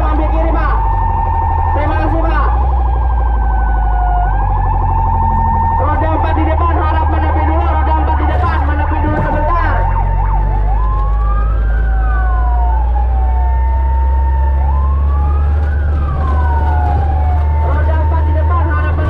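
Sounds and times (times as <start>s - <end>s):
fire truck siren: 0.0s - 19.0s
truck engine running: 0.0s - 19.0s.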